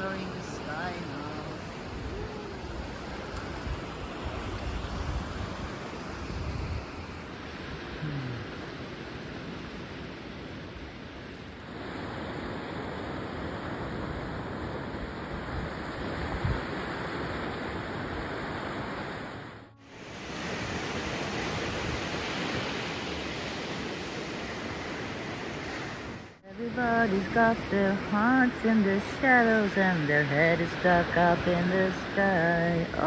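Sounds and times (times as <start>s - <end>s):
sea waves washing on shore: 0.0s - 33.0s.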